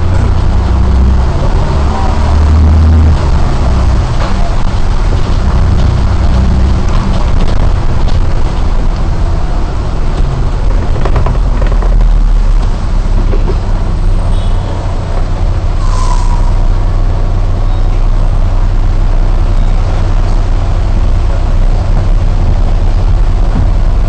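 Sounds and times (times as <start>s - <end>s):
bus diesel engine rumbling: 0.0s - 24.0s
tyres on wet road: 0.0s - 24.0s.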